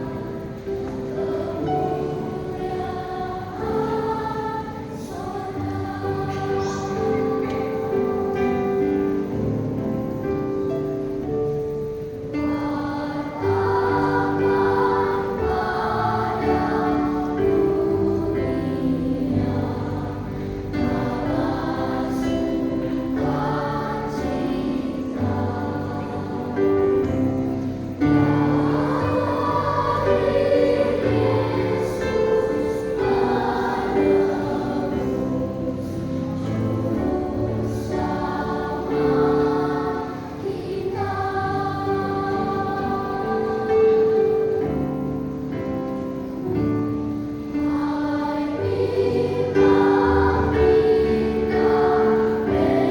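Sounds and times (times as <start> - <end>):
children's choir singing a hymn: 0.0 - 52.9.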